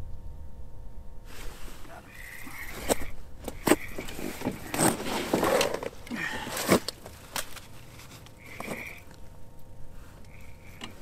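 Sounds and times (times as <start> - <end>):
rustling of winter clothing: 1.2 - 11.0.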